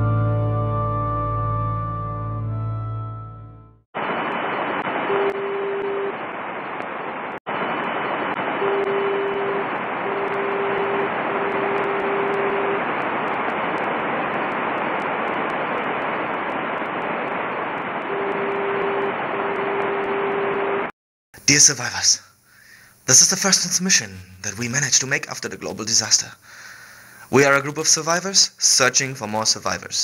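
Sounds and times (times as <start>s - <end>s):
radio static hiss: 4.0s - 30.0s.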